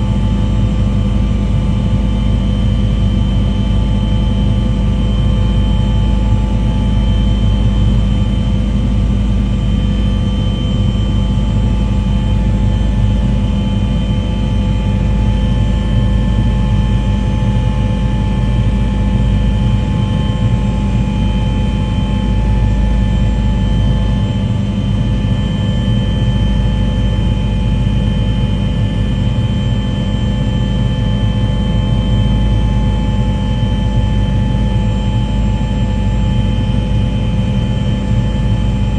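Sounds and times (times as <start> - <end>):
loud engine running steadily: 0.0 - 38.9.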